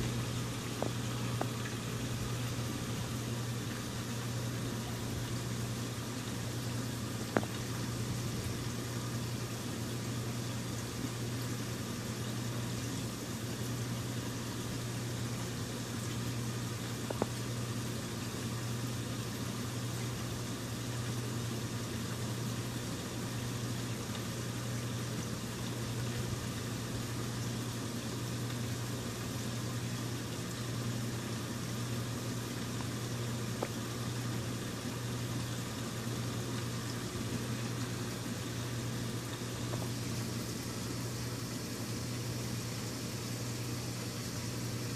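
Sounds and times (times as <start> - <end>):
bubbling water: 0.0 - 44.9
pump hum: 0.0 - 44.9.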